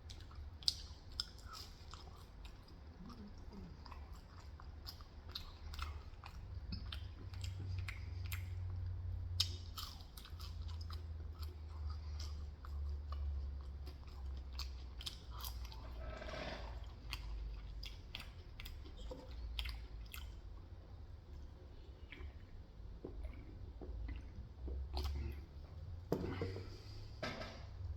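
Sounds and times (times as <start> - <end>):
chewing and biting food: 0.0 - 25.6.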